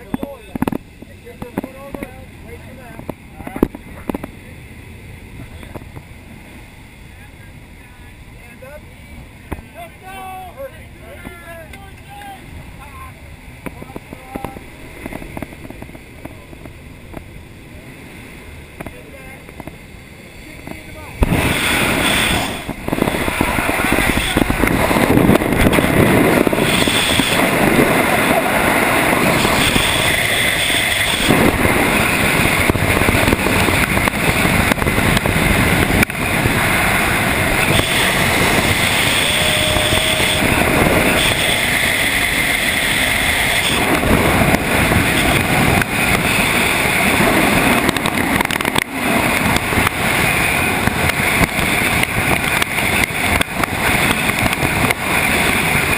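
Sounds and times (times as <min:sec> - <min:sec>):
freefall wind roar: 0:00.0 - 0:55.9.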